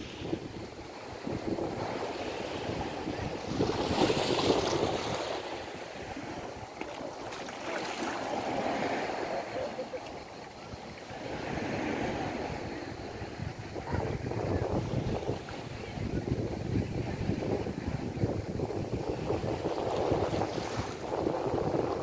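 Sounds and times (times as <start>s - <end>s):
wind buffeting microphone: 0.0s - 9.2s, 10.2s - 22.0s
waves washing against pier: 0.0s - 22.0s.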